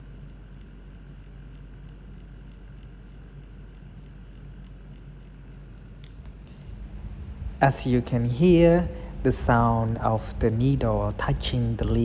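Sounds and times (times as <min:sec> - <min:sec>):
tattoo machine humming and ticking: 0:00.0 - 0:12.0.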